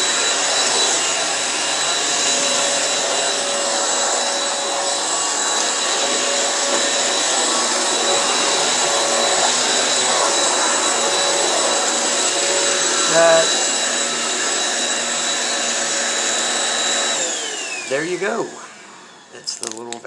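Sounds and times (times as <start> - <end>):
stick vacuum cleaner running: 0.0 - 20.0.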